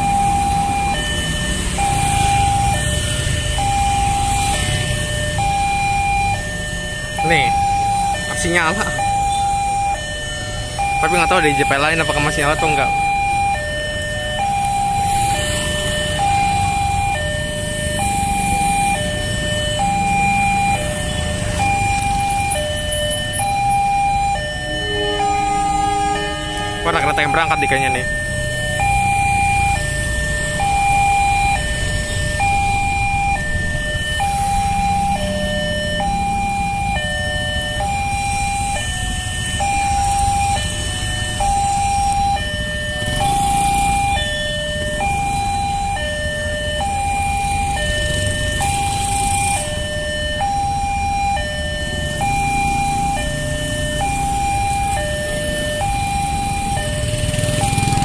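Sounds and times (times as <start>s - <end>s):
idling engines rumbling: 0.0s - 58.0s
level crossing two-tone alarm: 0.0s - 58.0s.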